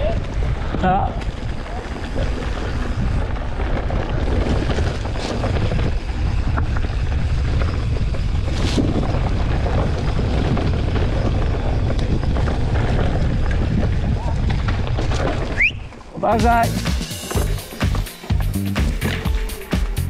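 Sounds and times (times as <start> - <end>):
wind buffeting microphone: 0.0 - 16.6
bike trail noise: 0.0 - 20.0.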